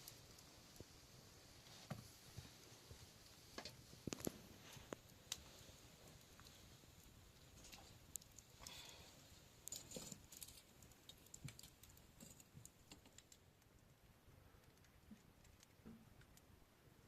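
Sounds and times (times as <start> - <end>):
faint clicks and rustles: 0.0 - 16.6.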